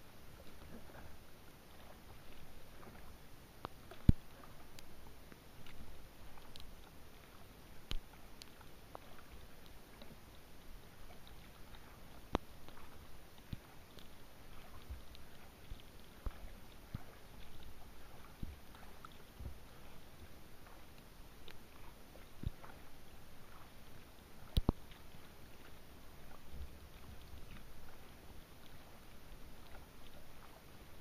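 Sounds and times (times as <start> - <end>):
faint water sounds: 0.0 - 31.0
rain drips: 0.3 - 31.0.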